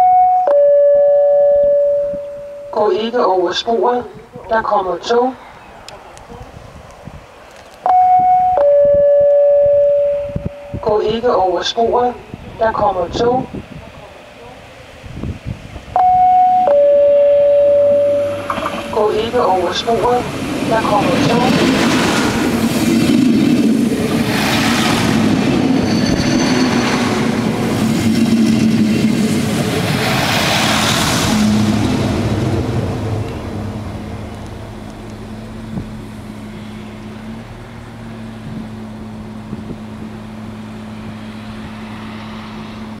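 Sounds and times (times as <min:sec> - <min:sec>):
railcar passing: 0:00.0 - 0:04.1, 0:05.0 - 0:43.0.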